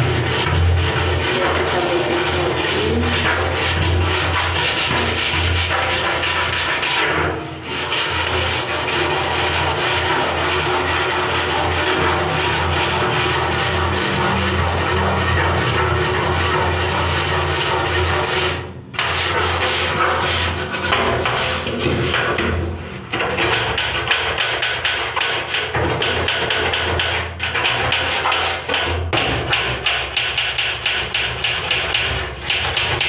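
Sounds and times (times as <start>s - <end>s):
brush scrubbing door grooves: 0.0s - 22.6s, 23.2s - 33.0s.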